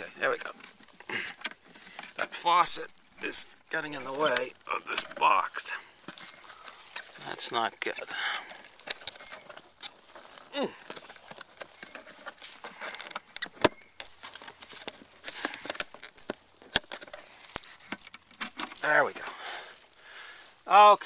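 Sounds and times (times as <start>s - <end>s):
shrub branches rustling: 0.0s - 21.0s.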